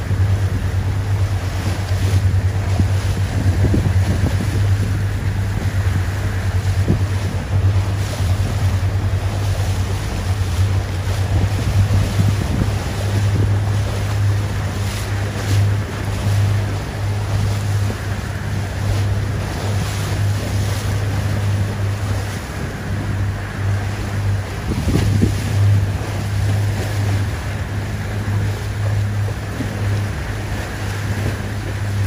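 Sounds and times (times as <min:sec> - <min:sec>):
rushing water: 0:00.0 - 0:32.0
steady low hum: 0:00.0 - 0:32.0
wind buffeting microphone: 0:00.0 - 0:32.0.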